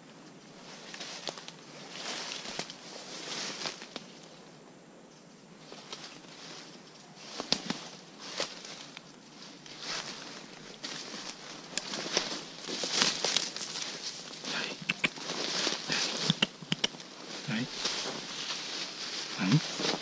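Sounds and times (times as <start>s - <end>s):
brushing through undergrowth: 0.6s - 4.3s, 5.6s - 20.0s
footsteps crunching through leaves: 0.8s - 4.2s, 5.6s - 20.0s.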